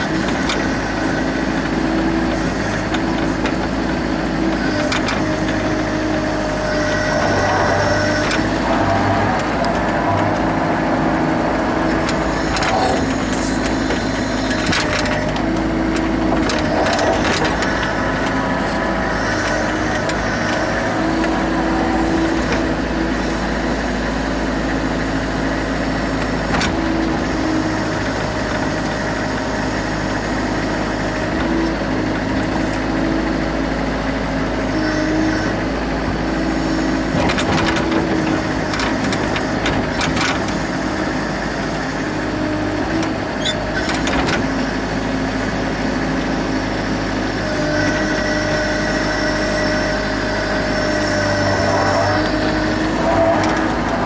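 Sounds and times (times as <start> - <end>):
diesel engine running: 0.0 - 54.0
hydraulic whine: 0.0 - 54.0.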